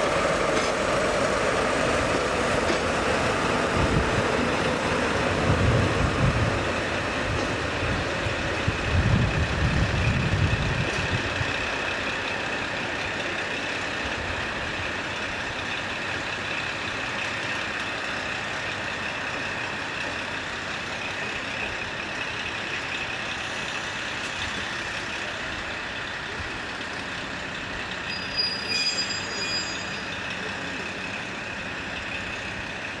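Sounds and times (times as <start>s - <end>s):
locomotive rumbling past: 0.0s - 33.0s.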